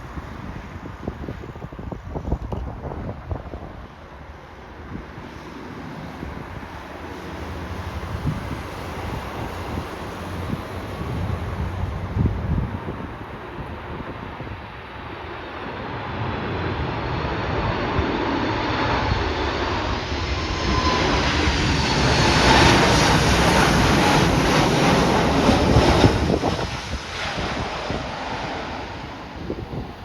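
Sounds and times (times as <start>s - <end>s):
jet airliner passing: 0.0s - 30.0s
wind buffeting microphone: 0.0s - 30.0s.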